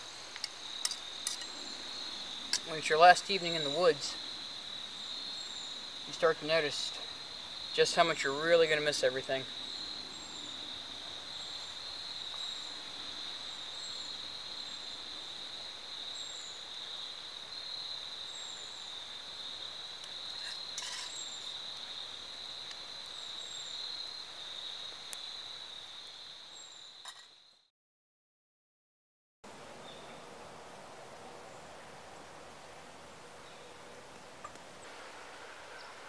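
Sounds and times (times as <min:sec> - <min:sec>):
crickets trilling: 0:00.0 - 0:27.7, 0:33.4 - 0:36.0.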